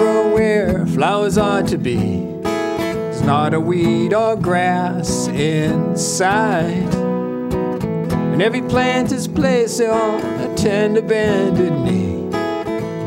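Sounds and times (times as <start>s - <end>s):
man singing folk song: 0.0s - 7.4s, 8.1s - 13.0s
strummed acoustic guitar: 0.0s - 13.0s.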